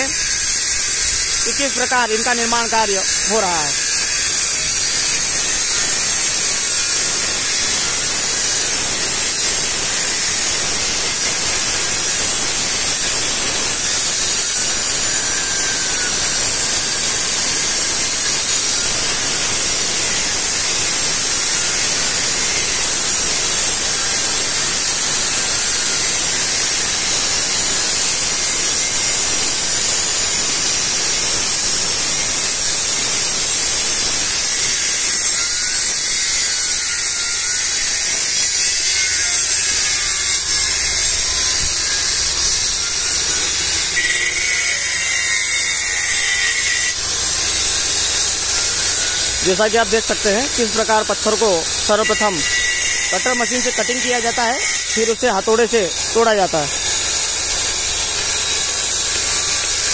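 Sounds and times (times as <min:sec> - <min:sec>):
angle grinders grinding stone: 0:00.0 - 0:59.9.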